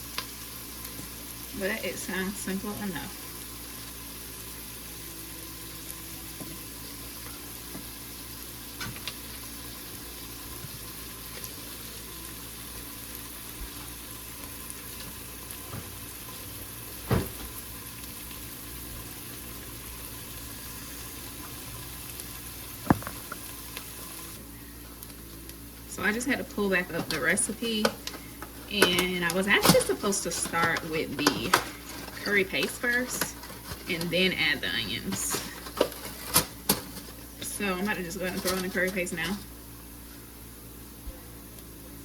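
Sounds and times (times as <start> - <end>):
onions sizzling in a pan: 0.0 - 42.0.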